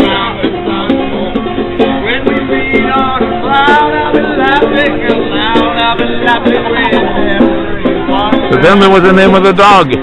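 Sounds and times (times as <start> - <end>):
man singing: 0.0 - 9.7
banjo playing: 0.0 - 10.0.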